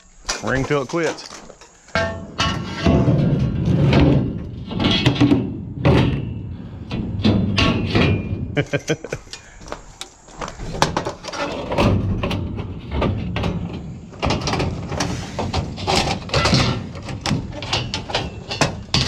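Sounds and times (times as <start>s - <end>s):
scrap metal clanking and rattling: 0.0s - 9.6s, 10.3s - 19.0s.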